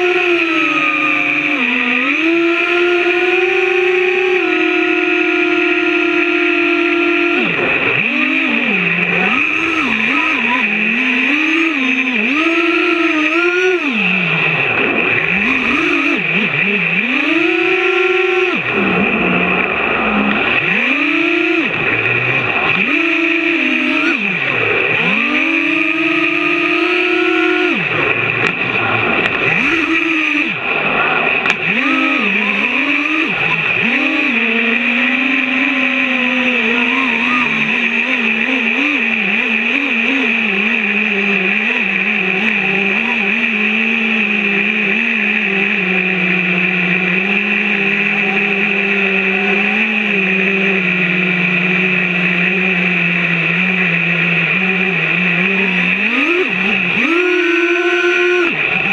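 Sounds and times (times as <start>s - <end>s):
drone motor whine: 0.0s - 58.9s.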